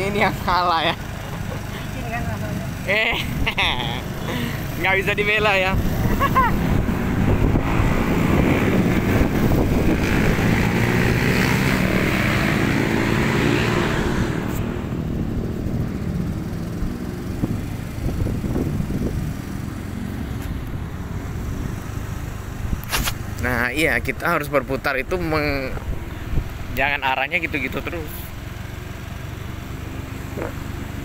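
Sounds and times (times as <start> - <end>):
motor scooter engine running: 0.0 - 12.7, 14.4 - 23.5, 27.6 - 31.0.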